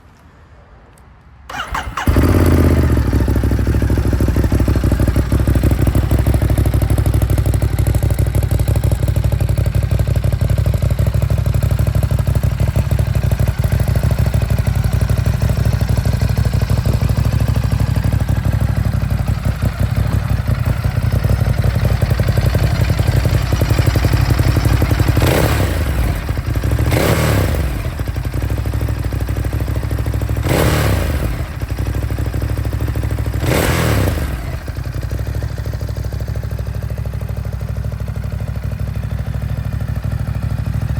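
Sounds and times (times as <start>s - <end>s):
motorcycle engine idling and revving: 1.5s - 40.9s.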